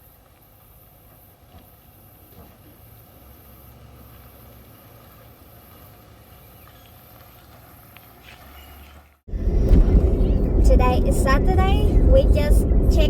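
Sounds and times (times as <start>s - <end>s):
vehicle cabin hum: 0.0s - 13.0s.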